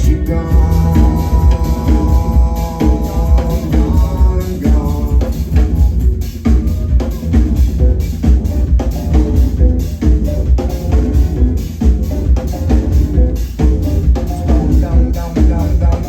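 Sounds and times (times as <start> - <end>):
drum kit beat: 0.0 - 16.0
heavy bass: 0.0 - 16.0.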